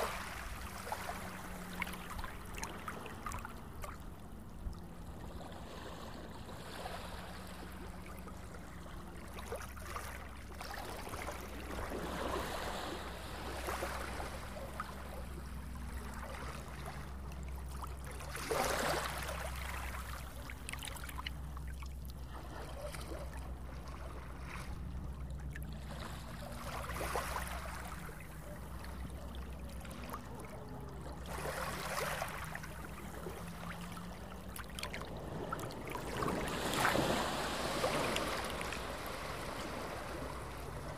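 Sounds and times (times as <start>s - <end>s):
steady low rumble: 0.0s - 40.9s
water splashing: 0.0s - 40.9s.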